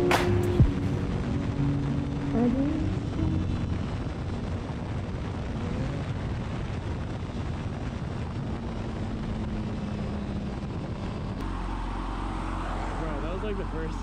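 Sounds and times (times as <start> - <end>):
motorcycle engine at speed: 0.0 - 14.0
wind rushing on microphone: 0.0 - 14.0.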